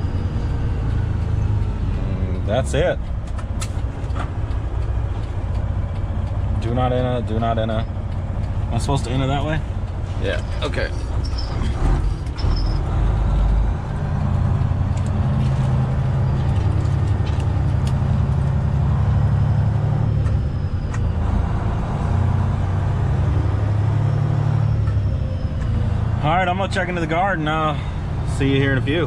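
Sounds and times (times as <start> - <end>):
diesel truck engine low drone: 0.0 - 29.0.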